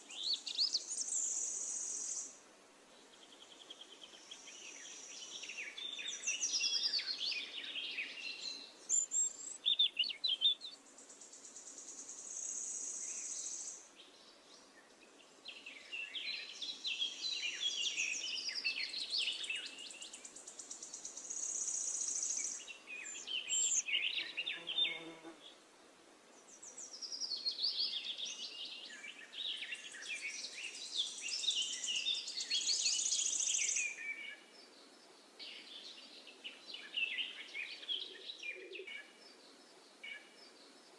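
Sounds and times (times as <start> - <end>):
birds chirping and trilling: 0.0 - 2.3, 3.0 - 25.6, 26.4 - 40.9.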